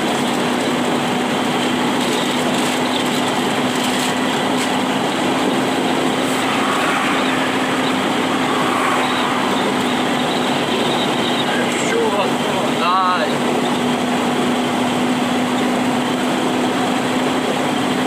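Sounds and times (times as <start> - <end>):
engine hum: 0.0 - 18.0
heavy rain and wet road noise: 0.0 - 18.0.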